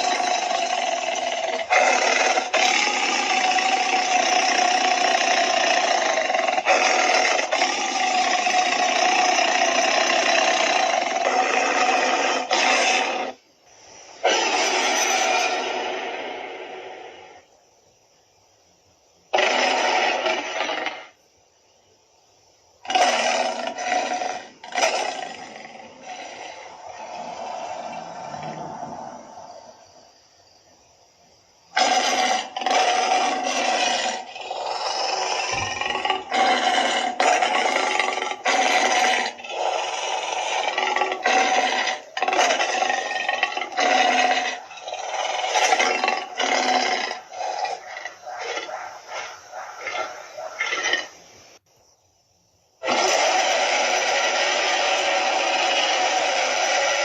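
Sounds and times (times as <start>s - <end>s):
dinosaur roar: 0.0s - 13.4s, 14.2s - 17.5s, 22.8s - 30.0s, 31.8s - 51.2s, 52.8s - 57.0s.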